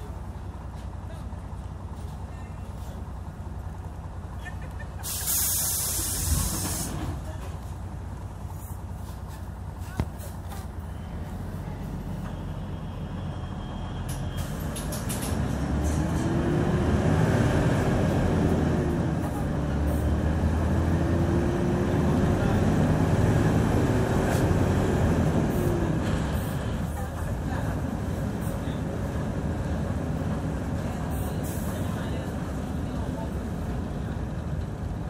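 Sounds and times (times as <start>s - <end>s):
bus diesel engine accelerating: 0.0s - 35.0s.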